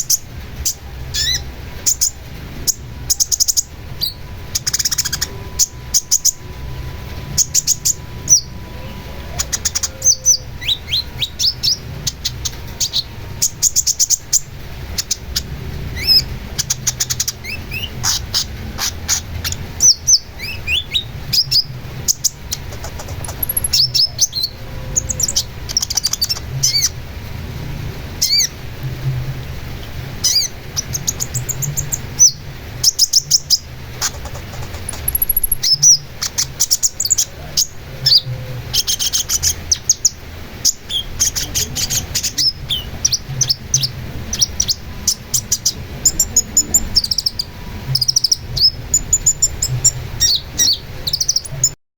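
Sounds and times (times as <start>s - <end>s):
bird singing: 0.0s - 27.0s, 28.2s - 28.6s, 30.2s - 51.8s
low background rumble: 0.0s - 51.8s.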